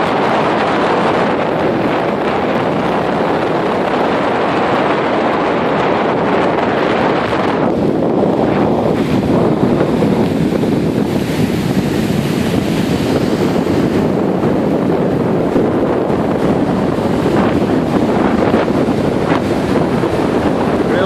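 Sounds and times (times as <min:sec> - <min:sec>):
heavy surf: 0:00.0 - 0:21.0
wind buffeting microphone: 0:00.0 - 0:21.0.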